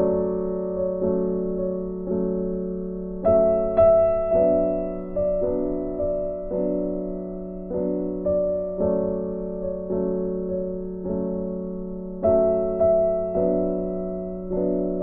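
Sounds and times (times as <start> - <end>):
slow keyboard chords: 0.0 - 15.0.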